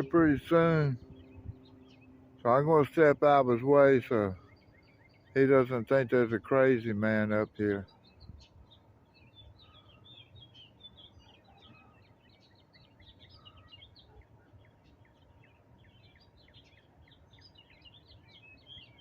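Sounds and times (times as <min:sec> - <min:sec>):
low background hum: 0:00.0 - 0:19.0
small birds chirping: 0:00.0 - 0:19.0.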